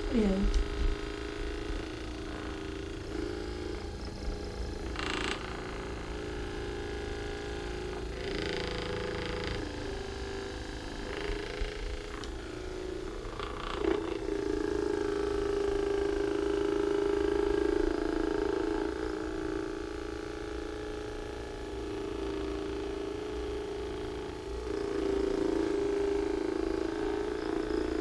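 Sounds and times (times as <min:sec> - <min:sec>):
electric massager buzzing: 0:00.0 - 0:28.0.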